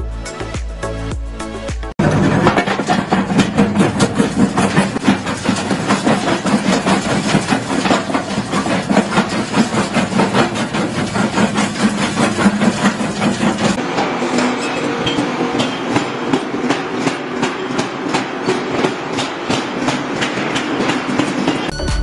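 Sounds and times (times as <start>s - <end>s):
jaw crusher droning: 2.0s - 21.7s.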